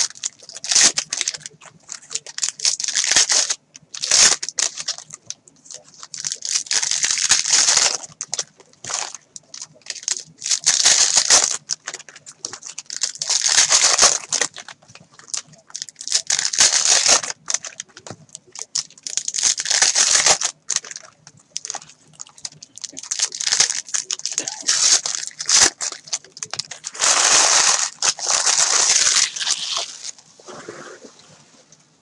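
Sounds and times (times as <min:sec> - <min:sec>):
foil wrappers tearing and crinkling: 0:00.0 - 0:30.2.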